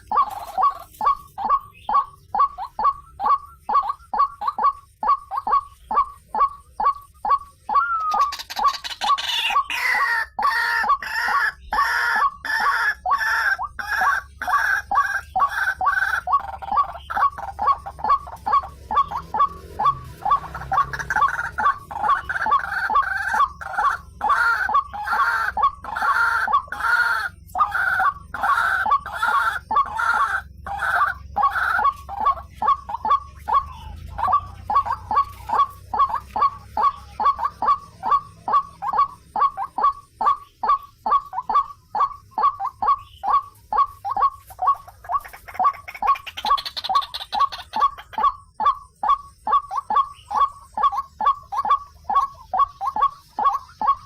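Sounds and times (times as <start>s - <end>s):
second bird calling: 0.0s - 54.0s
waterhen croaking calls: 0.0s - 54.0s.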